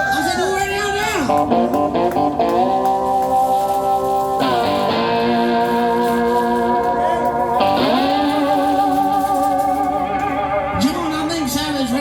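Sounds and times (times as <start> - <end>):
slide guitar sustained notes: 1.3 - 12.0.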